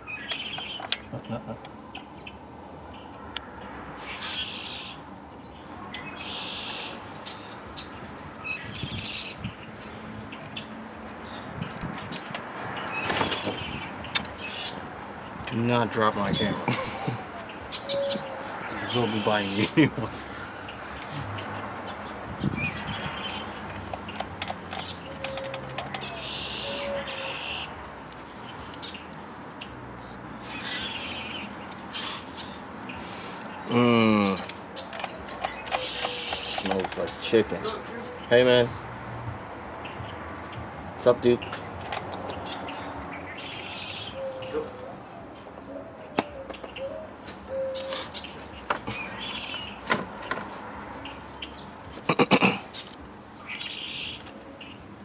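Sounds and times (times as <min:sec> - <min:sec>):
bird calling: 0:04.0 - 0:05.0, 0:05.6 - 0:14.9, 0:15.9 - 0:38.7, 0:42.2 - 0:50.4, 0:51.0 - 0:54.8.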